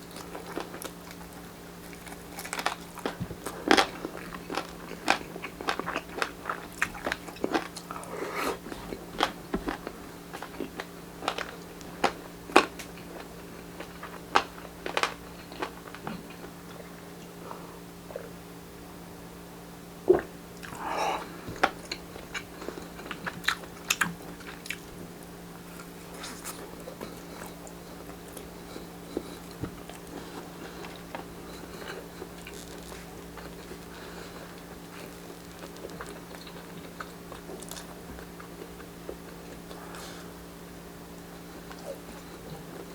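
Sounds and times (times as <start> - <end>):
crunching bites and chewing: 0.0 - 16.8, 20.2 - 40.2.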